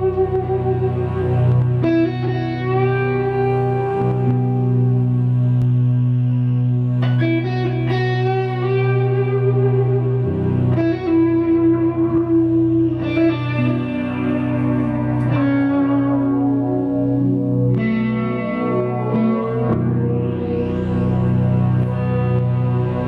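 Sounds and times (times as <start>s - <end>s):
distorted electric guitar solo: 0.0s - 23.0s
sustained low chords: 0.0s - 23.0s.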